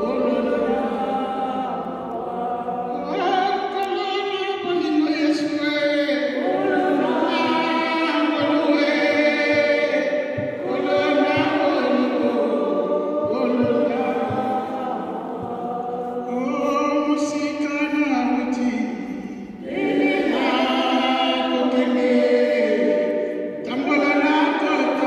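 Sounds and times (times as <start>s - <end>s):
choir singing held notes: 0.0s - 4.7s, 5.3s - 17.4s, 18.0s - 25.0s.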